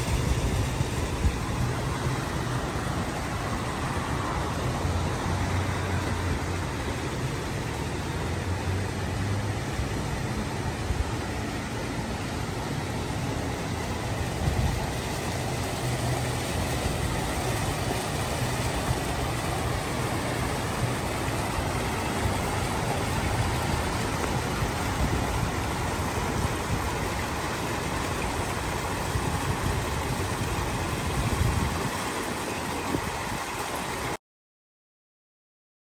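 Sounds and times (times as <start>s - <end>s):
fountain water splashing: 0.0s - 34.2s
low rumble of traffic: 0.0s - 34.2s.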